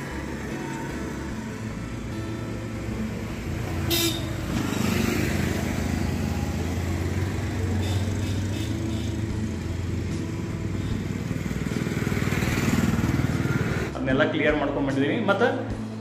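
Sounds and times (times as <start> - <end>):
vehicle engine humming: 0.0 - 14.0
road noise: 0.0 - 16.0.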